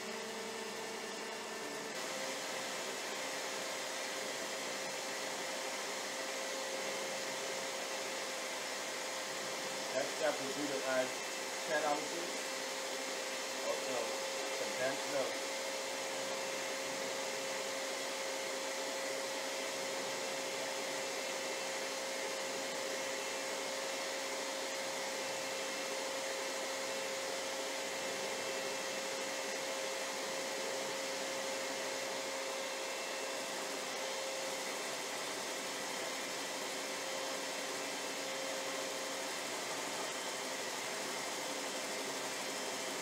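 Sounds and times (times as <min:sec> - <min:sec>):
electric stand mixer whirring: 0:00.0 - 0:43.0.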